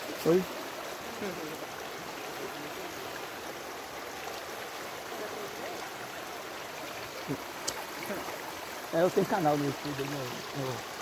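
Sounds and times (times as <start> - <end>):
forest stream rushing: 0.0 - 11.0.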